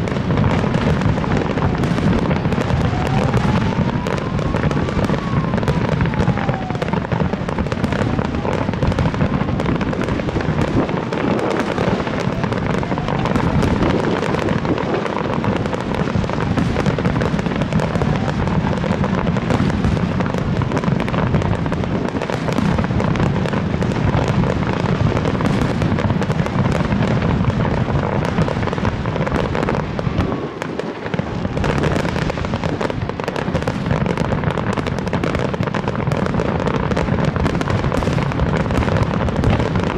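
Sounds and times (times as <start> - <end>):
faint fireworks whistling: 0.0 - 39.9
fireworks bangs and crackling: 0.0 - 39.9.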